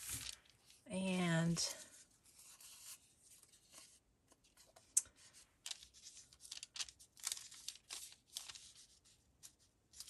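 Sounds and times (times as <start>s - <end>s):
paper rustling and crinkling: 0.0s - 0.8s, 1.7s - 10.0s.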